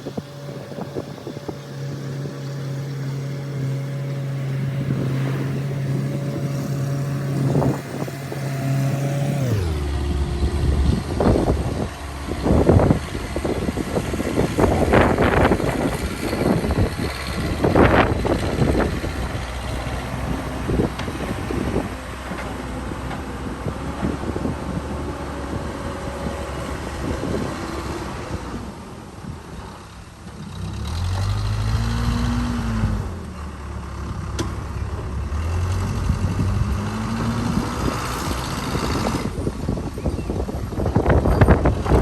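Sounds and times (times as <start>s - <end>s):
backhoe engine revving: 0.0s - 42.0s.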